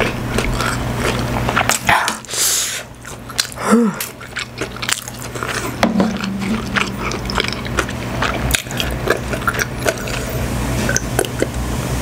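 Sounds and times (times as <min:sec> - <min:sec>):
chewing food with wet clicks: 0:00.0 - 0:02.3, 0:02.9 - 0:11.6.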